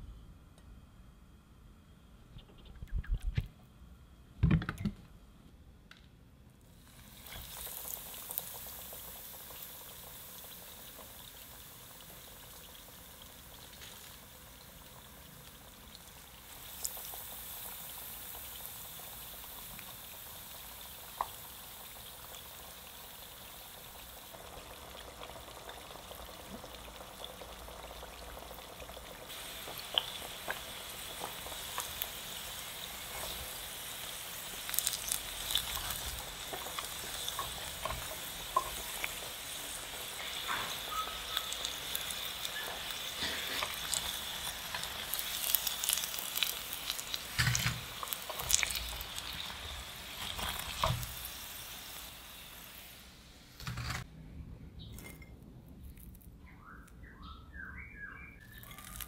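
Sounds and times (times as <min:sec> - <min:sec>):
food deep-frying in oil: 0:06.7 - 0:54.1, 0:58.4 - 0:59.0.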